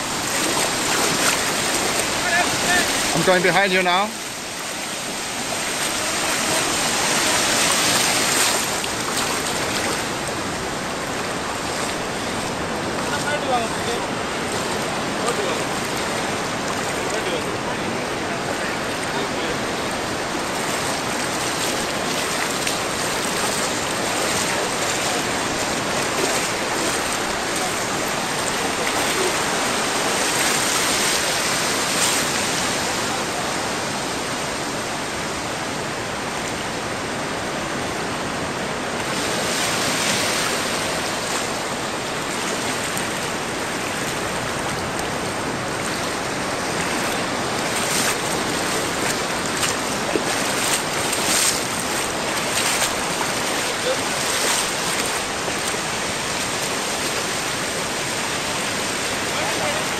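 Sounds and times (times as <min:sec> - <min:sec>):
waves washing through surf: 0:00.0 - 0:59.9.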